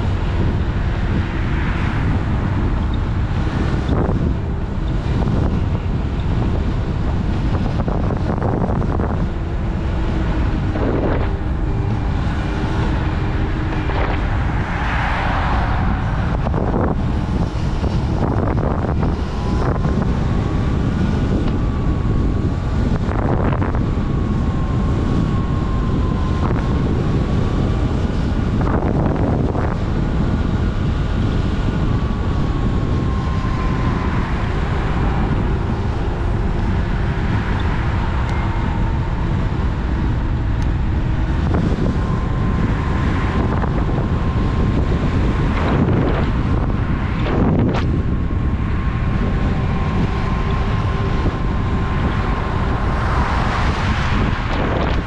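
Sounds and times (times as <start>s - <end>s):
faint whine: 0.0s - 55.0s
wind on microphone: 0.0s - 55.0s.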